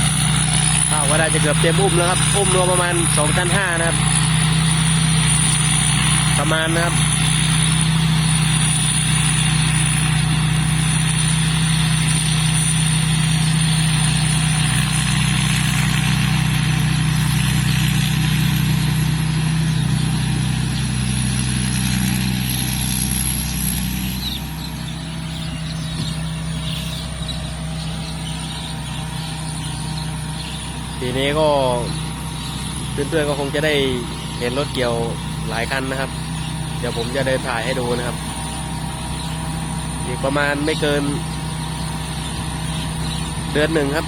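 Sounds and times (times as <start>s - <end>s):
combine harvester engine hum: 0.0s - 44.0s.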